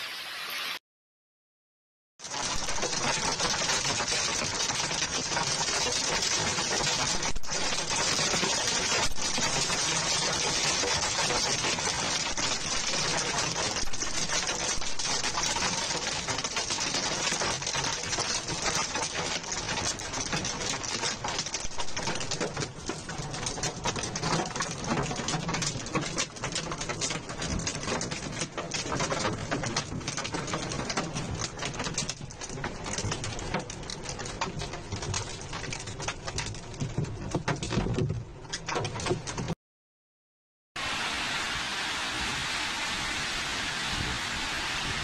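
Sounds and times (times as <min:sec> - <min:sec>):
hailstones pelting down: 0:02.2 - 0:39.6.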